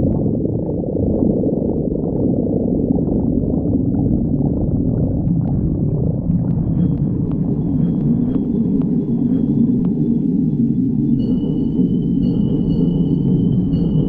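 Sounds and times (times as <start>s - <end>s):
stomach growling: 0.0s - 11.3s.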